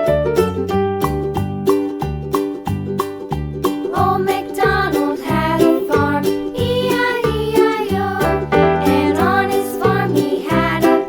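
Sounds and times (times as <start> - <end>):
bouncy children's music: 0.0 - 11.0.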